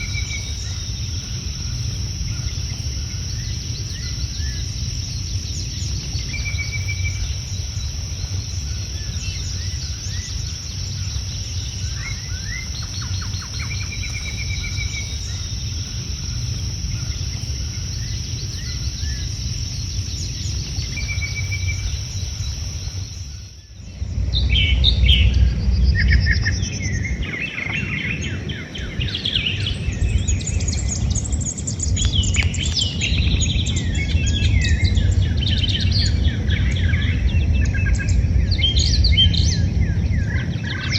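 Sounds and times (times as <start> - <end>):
birds chirping and trilling: 0.0 - 40.9
low rumble: 0.0 - 40.9.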